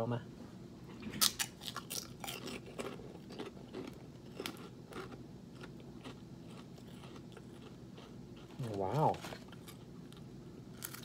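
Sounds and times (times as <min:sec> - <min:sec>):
pork rind crunching: 0:01.2 - 0:11.0.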